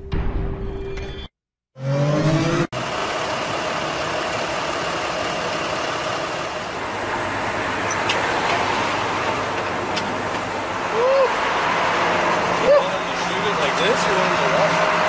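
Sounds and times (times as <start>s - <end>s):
street noise: 1.8s - 15.0s
vehicle engine idling: 2.8s - 15.0s.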